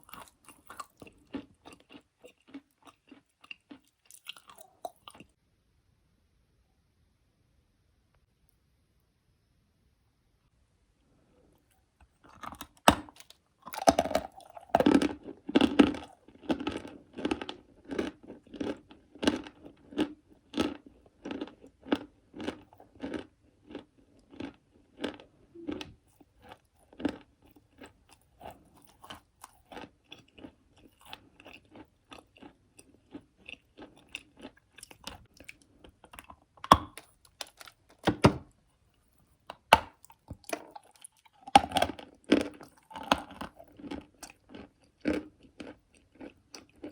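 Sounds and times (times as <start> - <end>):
crunchy chewing of clay: 0.0 - 5.4, 12.0 - 46.9.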